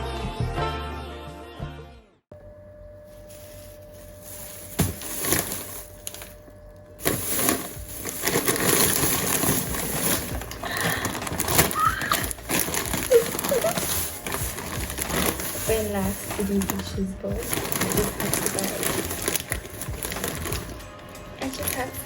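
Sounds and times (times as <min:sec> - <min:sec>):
rustling with small clatters: 0:03.1 - 0:22.0.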